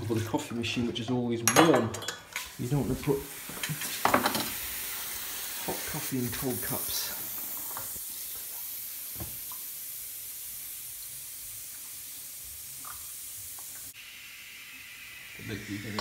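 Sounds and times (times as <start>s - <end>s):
steam hissing: 2.4s - 16.0s.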